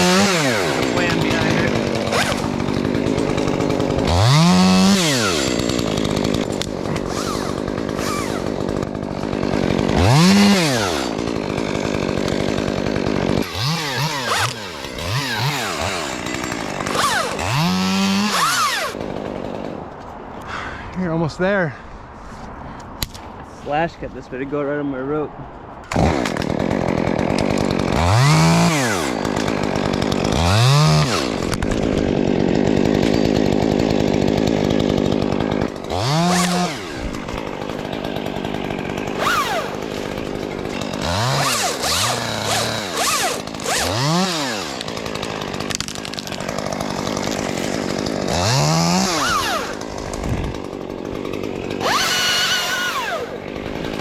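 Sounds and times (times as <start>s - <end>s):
chainsaw revving and cutting: 0.0s - 19.9s, 25.9s - 54.0s.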